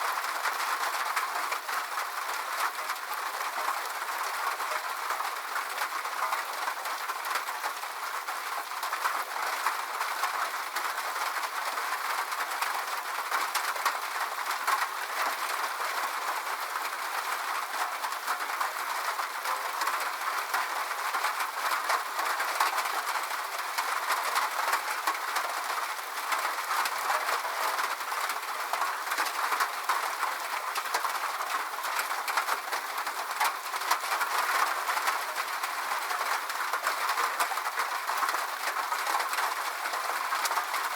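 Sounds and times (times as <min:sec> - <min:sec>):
rain on a metal roof: 0:00.0 - 0:40.9.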